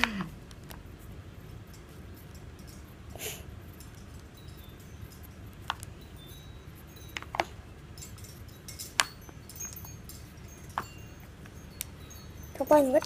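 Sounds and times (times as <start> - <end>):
drawing tools clicking and clinking: 1.4 - 13.0.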